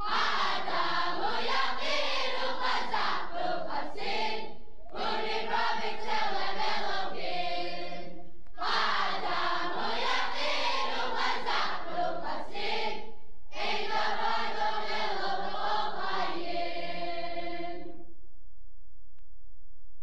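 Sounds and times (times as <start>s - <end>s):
group singing in unison: 0.0s - 18.0s
faint low hum: 0.0s - 20.0s.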